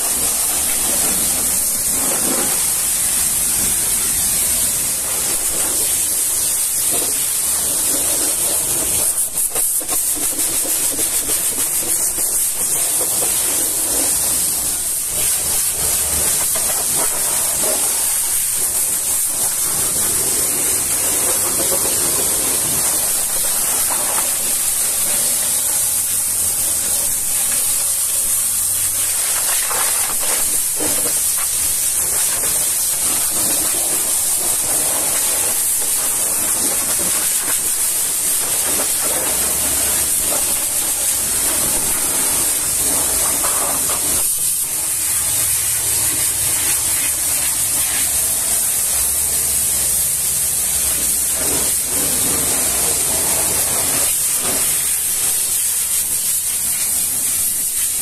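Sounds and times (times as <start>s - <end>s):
pressure washer spraying water: 0.0s - 58.0s.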